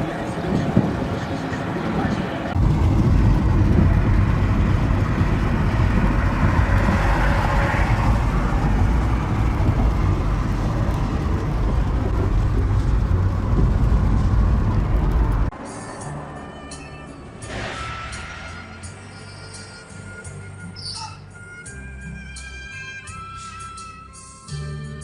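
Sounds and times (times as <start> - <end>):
vehicle rumble: 0.0 - 24.2.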